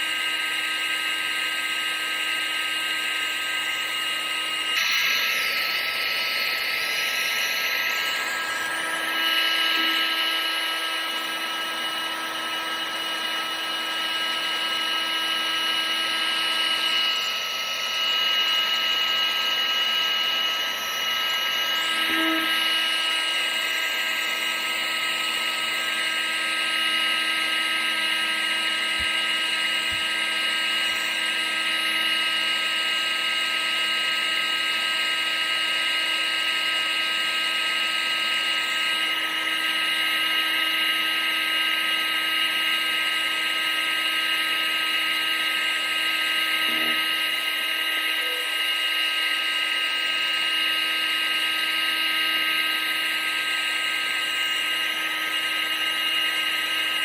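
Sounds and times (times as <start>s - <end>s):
appliance motor whine: 0.0s - 57.0s.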